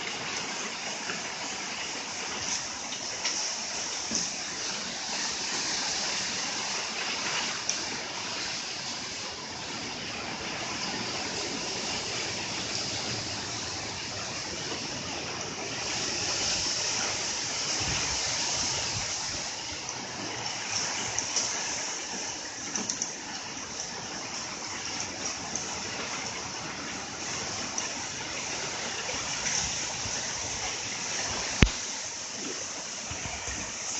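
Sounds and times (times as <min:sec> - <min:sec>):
wind and rain rushing: 0:00.0 - 0:33.9.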